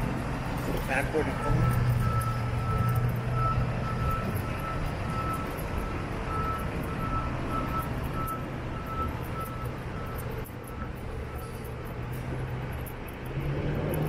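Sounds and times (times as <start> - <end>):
truck engine running: 0.0 - 14.0
back-up alarm beeping: 0.8 - 13.1.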